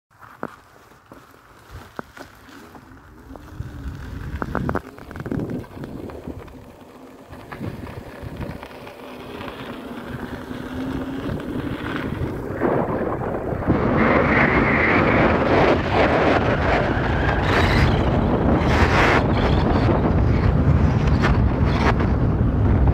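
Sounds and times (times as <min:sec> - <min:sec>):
wind rushing over microphone: 0:02.9 - 0:22.9.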